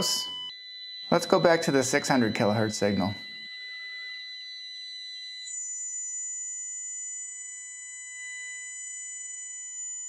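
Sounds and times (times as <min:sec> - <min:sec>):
faint wavering whistles: 0:00.0 - 0:10.0
steady test tone from radio speaker: 0:00.0 - 0:10.0.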